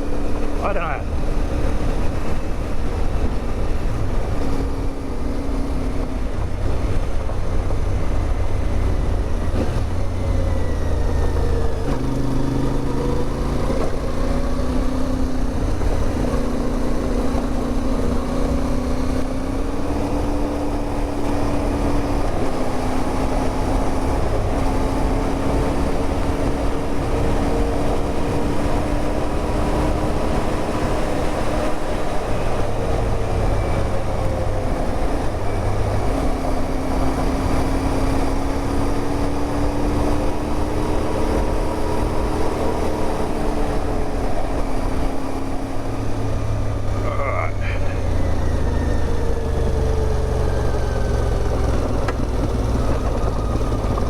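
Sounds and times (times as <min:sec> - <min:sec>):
wind rumble on microphone: 0:00.0 - 0:47.0, 0:48.0 - 0:54.0
motorcycle engine running: 0:00.0 - 0:54.0.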